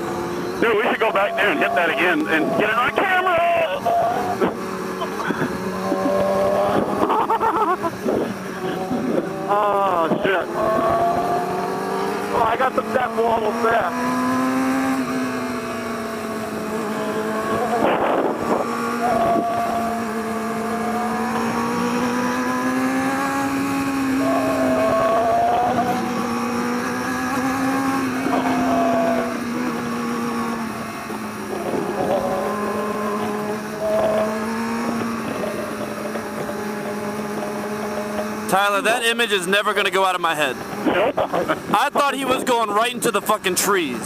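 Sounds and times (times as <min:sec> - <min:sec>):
motorcycle engine revving: 0:00.0 - 0:43.2.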